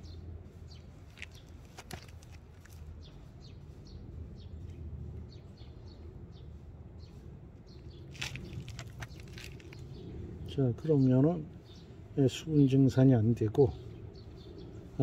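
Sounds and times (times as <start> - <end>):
low outdoor hum: 0.0 - 15.0
small birds chirping: 0.0 - 15.0.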